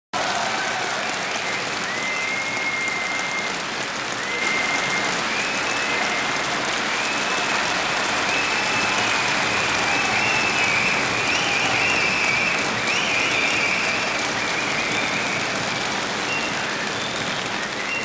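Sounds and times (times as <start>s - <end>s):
audience applauding: 0.2s - 18.0s.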